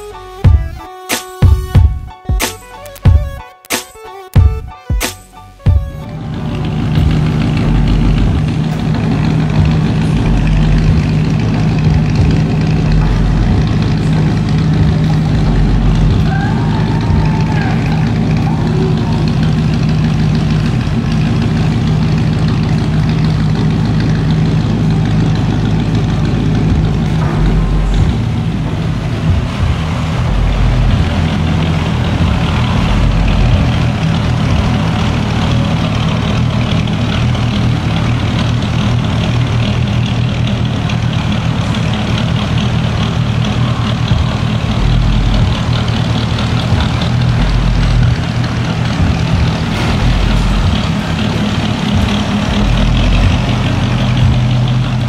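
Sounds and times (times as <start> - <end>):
car engine running: 4.4 - 55.0.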